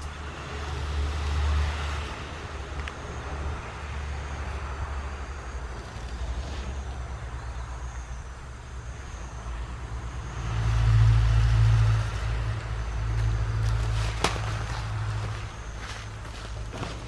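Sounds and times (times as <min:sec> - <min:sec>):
truck engine rumble passing: 0:00.0 - 0:17.0.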